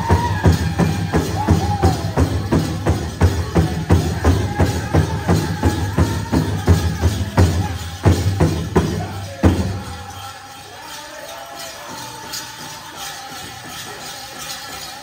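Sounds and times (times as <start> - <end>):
group singing high: 0.0 - 15.0
leg bells rattling: 0.0 - 15.0.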